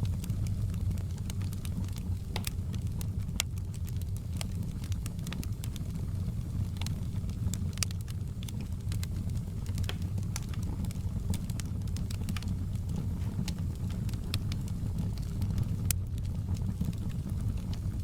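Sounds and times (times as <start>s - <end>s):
campfire crackling and popping: 0.0s - 18.0s
low rumble of flames: 0.0s - 18.0s.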